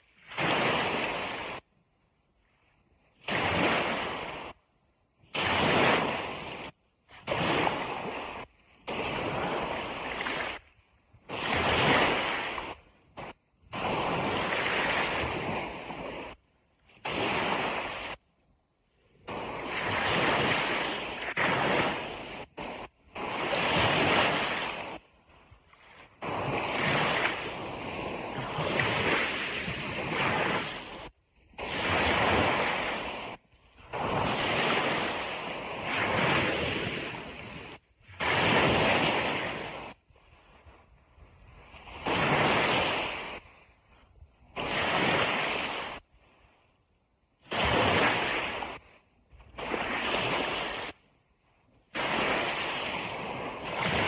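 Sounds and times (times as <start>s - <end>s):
ocean waves washing onto beach: 0.0s - 46.8s, 47.4s - 54.0s.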